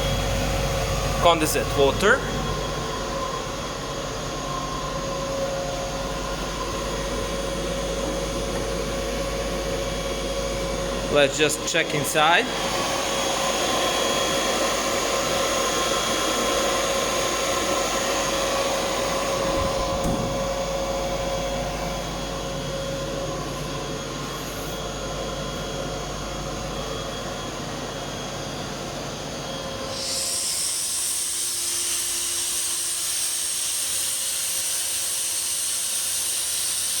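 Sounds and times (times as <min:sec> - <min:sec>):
air compressor humming: 0:00.0 - 0:34.1.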